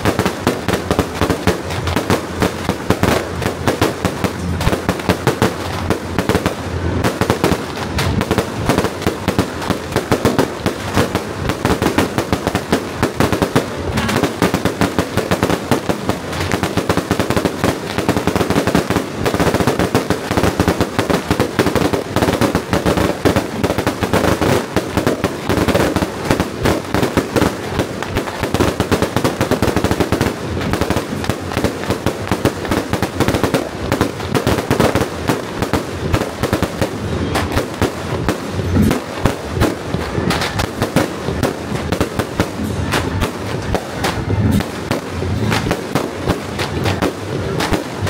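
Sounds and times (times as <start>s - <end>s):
firecrackers crackling: 0.0s - 48.0s.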